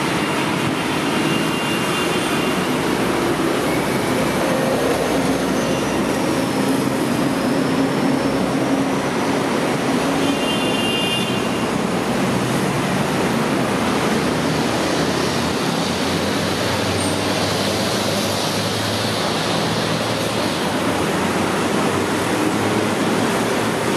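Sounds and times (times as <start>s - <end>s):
heavy road traffic: 0.0s - 23.9s.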